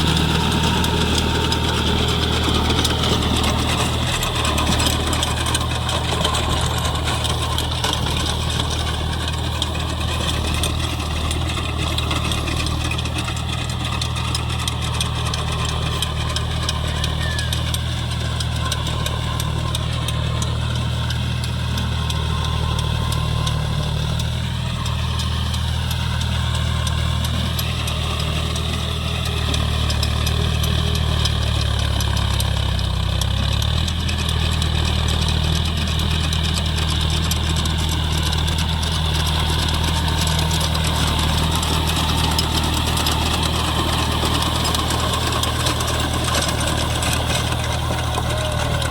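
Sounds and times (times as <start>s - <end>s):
rotavator working through mud: 0.0s - 48.9s
tractor diesel engine running: 0.0s - 48.9s.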